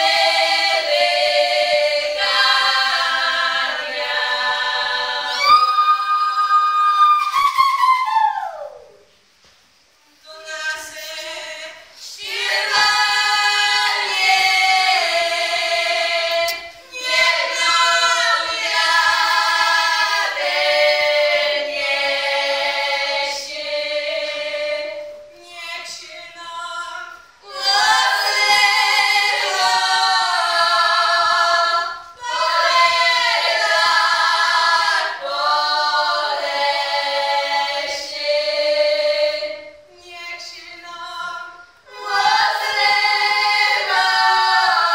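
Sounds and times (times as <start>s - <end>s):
women singing a cappella: 0.0s - 9.1s, 10.1s - 44.9s.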